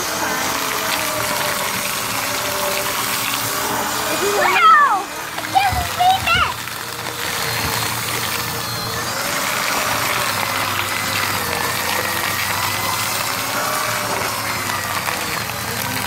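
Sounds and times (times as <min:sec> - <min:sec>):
paper shredder running: 0:00.0 - 0:16.0.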